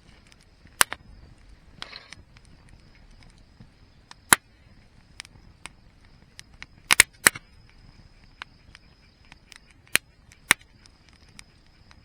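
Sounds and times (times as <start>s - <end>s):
burning wood popping: 0.1s - 12.0s.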